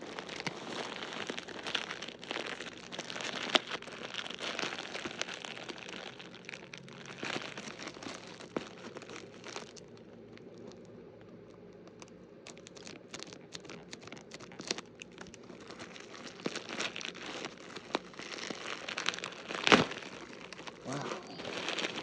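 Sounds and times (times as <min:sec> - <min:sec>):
packaging crinkling and rustling: 0:00.0 - 0:22.0.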